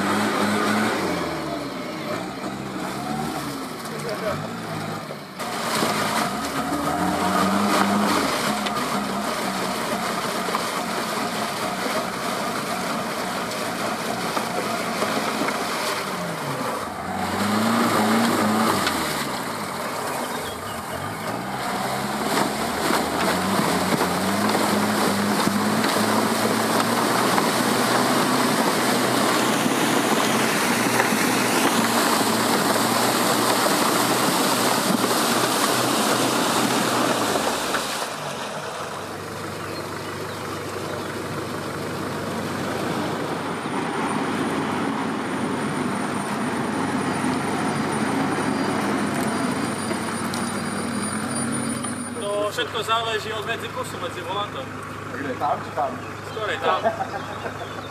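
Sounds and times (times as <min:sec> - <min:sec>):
engine revving under load: 0:00.0 - 0:57.9
tyre and terrain noise: 0:00.0 - 0:57.9.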